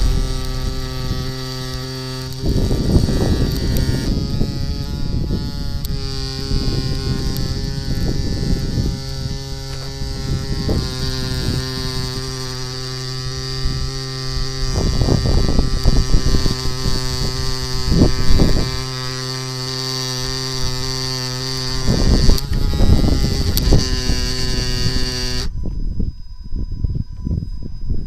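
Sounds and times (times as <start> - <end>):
gimbal motors humming and whining: 0.0 - 28.0
low rumbles: 0.0 - 28.0.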